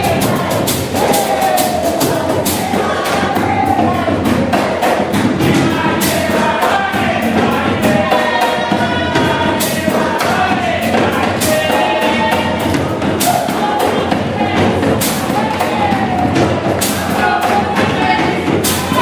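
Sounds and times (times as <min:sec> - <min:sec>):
drums and drum kit: 0:00.0 - 0:19.0
group singing: 0:00.0 - 0:19.0.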